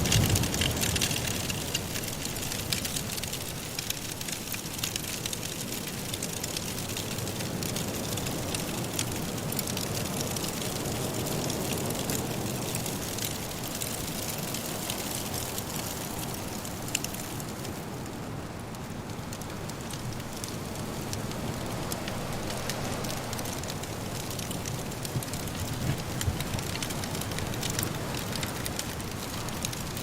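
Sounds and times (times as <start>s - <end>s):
firewood crackling: 0.0s - 30.0s
soft blizzard wind: 0.0s - 30.0s.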